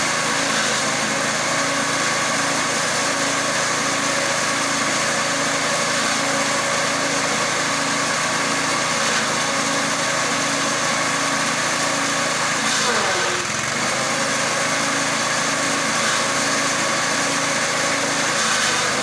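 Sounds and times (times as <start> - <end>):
grass chopper engine droning: 0.0 - 19.0.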